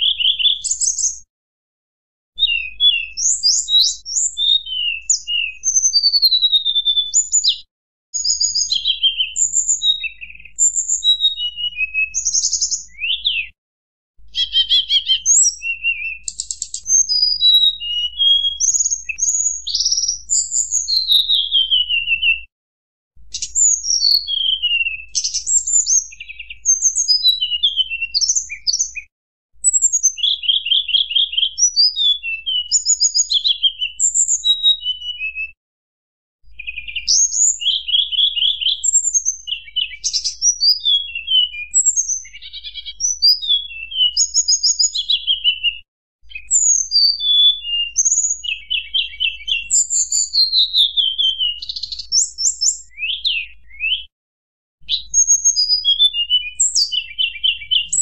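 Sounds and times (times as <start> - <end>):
bird whistling song with trills: 0.0 - 1.3, 2.4 - 13.6, 14.3 - 22.5, 23.3 - 35.6, 36.5 - 54.1, 54.8 - 58.0.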